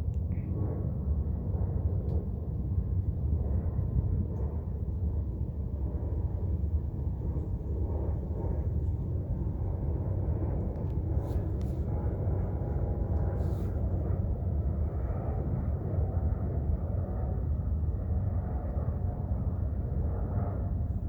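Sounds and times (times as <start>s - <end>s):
low rumbling outdoor noise: 0.0s - 21.0s.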